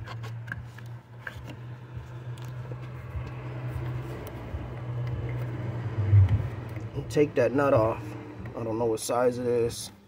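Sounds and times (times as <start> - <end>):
steady low hum: 0.4 - 8.8.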